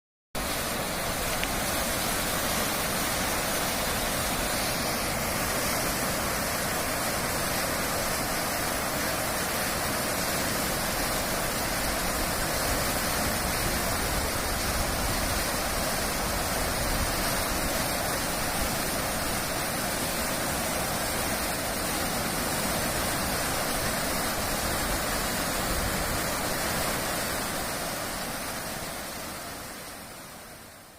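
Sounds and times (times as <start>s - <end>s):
water rushing: 0.4s - 30.9s.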